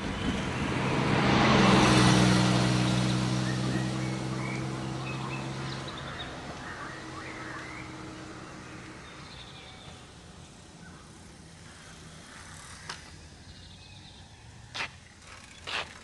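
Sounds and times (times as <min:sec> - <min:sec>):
van driving past: 0:00.0 - 0:13.8
birds chirping: 0:00.0 - 0:14.7.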